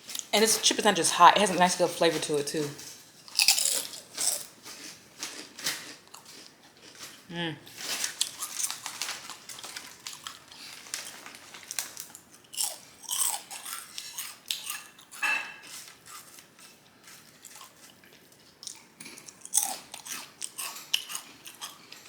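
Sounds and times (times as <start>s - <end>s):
person crunching chips: 3.2s - 22.0s.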